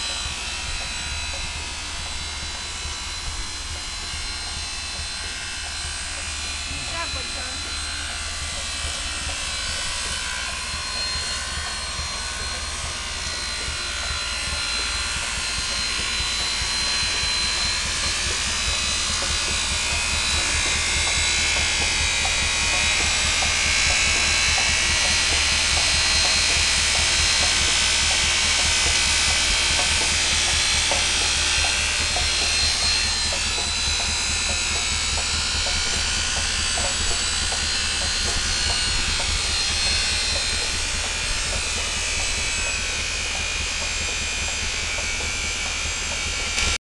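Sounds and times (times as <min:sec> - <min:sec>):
angle grinder motor whine: 0:00.0 - 0:46.8
low steady forklift rumble: 0:00.0 - 0:46.8.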